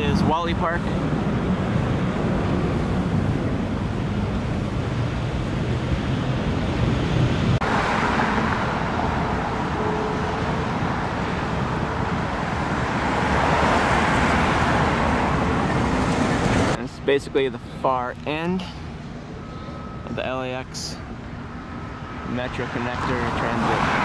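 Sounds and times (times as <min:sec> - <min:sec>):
road traffic passing cars: 0:00.0 - 0:24.0.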